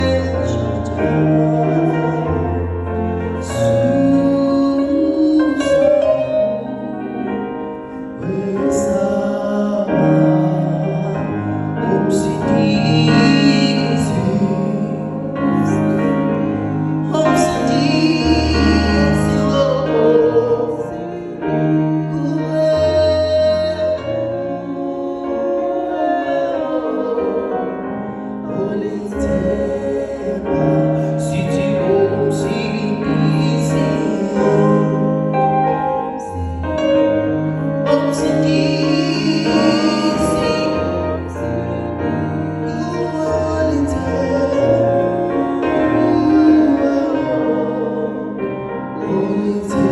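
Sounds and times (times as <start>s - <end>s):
music with singing: 0.0s - 49.9s.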